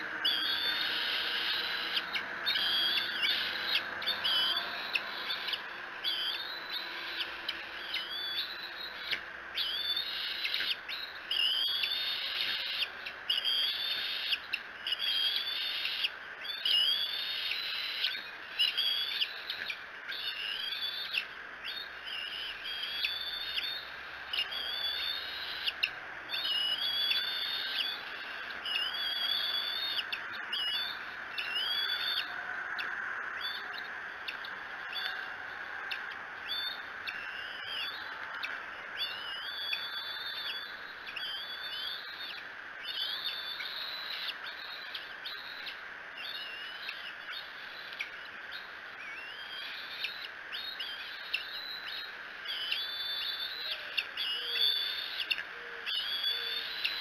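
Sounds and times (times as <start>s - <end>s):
bird calling: 0.0s - 57.0s
steady hiss: 0.0s - 57.0s.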